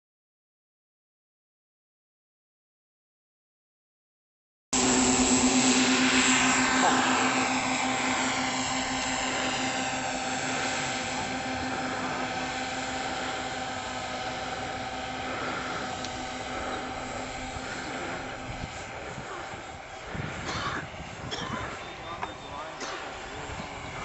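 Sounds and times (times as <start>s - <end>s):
model aircraft electric motors humming: 4.8s - 24.0s.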